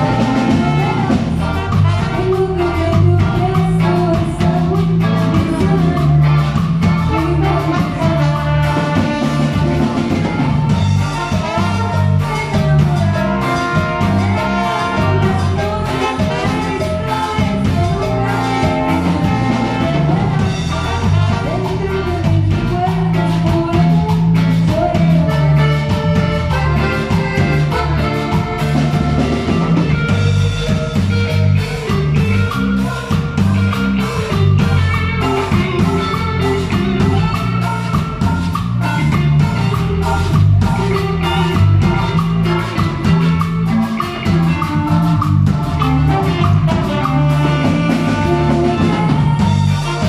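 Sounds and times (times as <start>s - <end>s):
bright melody: 0.0s - 50.0s
drums and percussion dance beat: 0.0s - 50.0s
repeating bass line: 0.0s - 50.0s.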